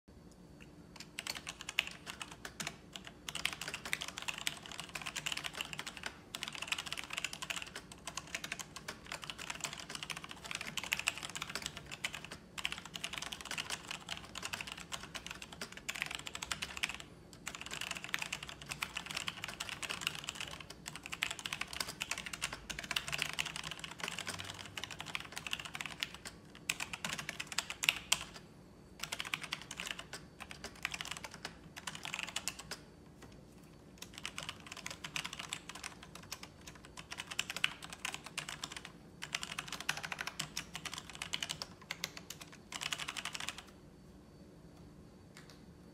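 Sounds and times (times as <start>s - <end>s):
mechanical keyboard typing: 0.9s - 28.4s, 29.0s - 32.9s, 34.0s - 43.8s.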